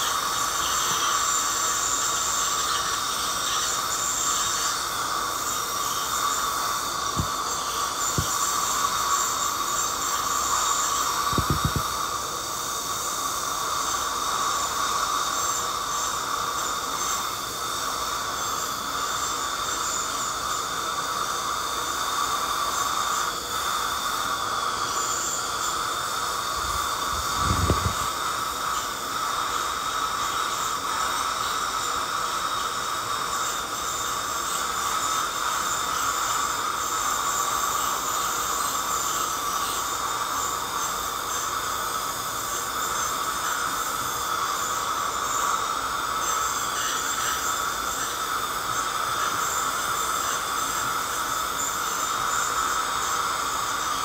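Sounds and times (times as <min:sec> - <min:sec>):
dental scaler high whine: 0:00.0 - 0:54.0
water spray hiss: 0:00.0 - 0:54.0.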